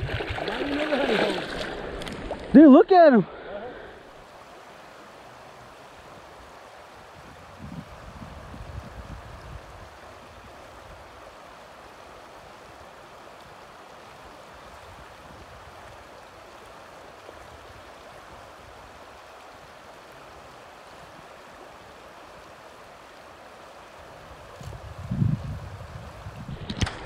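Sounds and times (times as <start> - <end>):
river water rushing over stones: 0.0 - 27.0.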